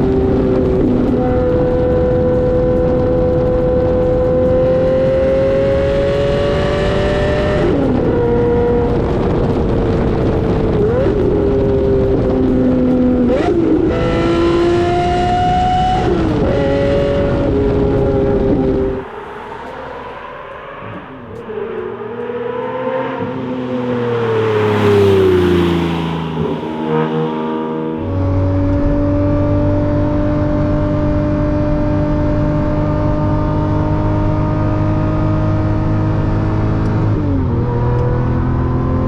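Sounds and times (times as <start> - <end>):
sports car engine changing gear: 0.0 - 39.0.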